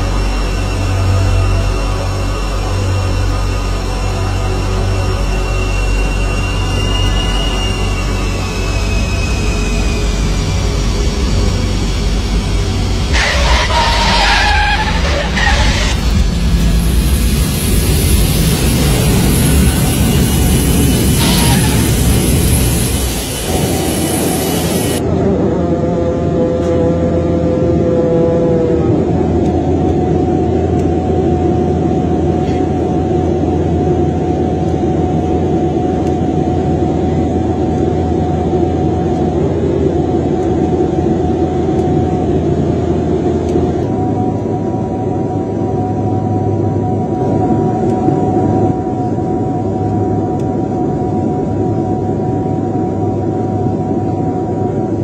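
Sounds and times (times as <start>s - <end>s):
airliner engines and airflow rushing: 0.0s - 55.0s
high steady whine: 0.0s - 55.0s
low drone: 0.0s - 55.0s.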